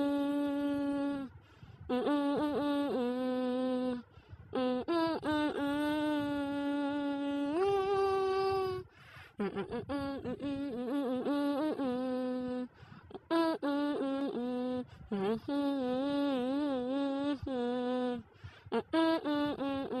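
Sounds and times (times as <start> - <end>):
person singing wordless held notes: 0.0 - 20.0.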